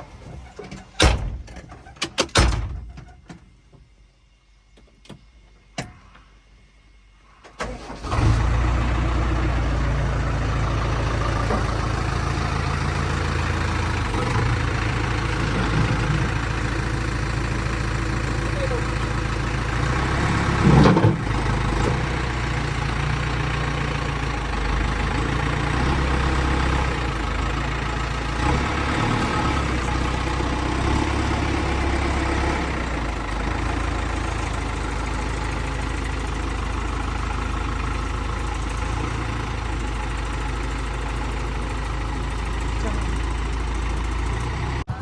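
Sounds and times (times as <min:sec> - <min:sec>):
diesel engine running: 0:07.6 - 0:45.0.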